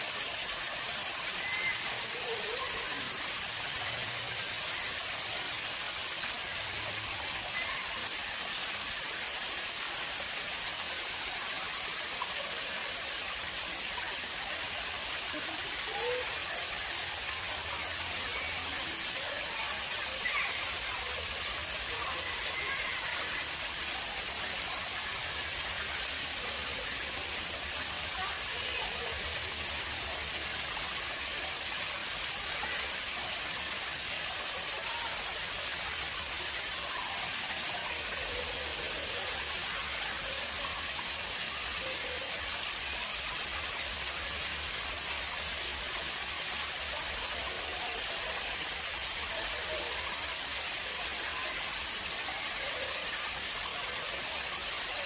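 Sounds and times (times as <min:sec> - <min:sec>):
water flowing into pond: 0:00.0 - 0:55.0.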